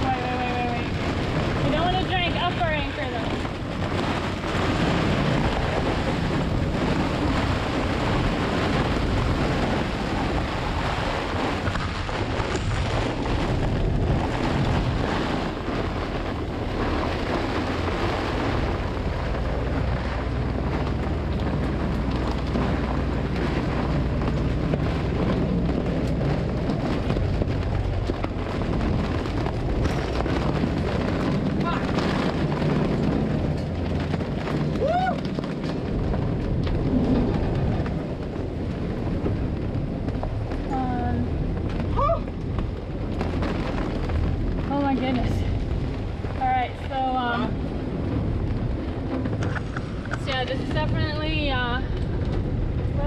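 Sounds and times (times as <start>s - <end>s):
heavy rain on canvas: 0.0s - 53.0s
wind buffeting microphone: 0.0s - 53.0s.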